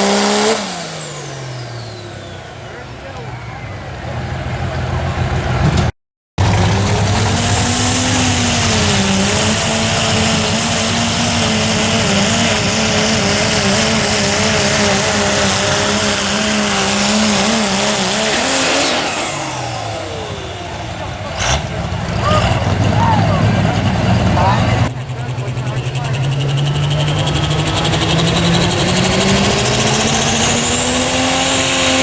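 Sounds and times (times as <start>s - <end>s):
diesel truck engine at high revs: 0.0s - 32.0s.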